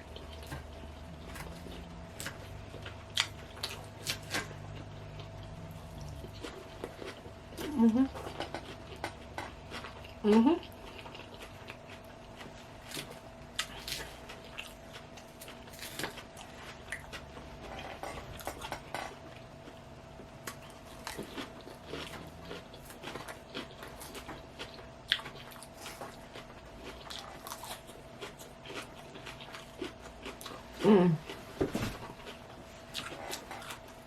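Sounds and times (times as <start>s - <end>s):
chewing and crunching salad: 0.0s - 34.0s
faint steady hum: 0.0s - 34.0s.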